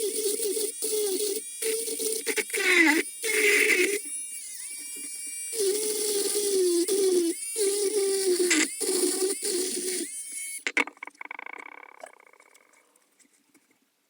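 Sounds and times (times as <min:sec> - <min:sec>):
rotary tool grinding metal: 0:00.0 - 0:12.8.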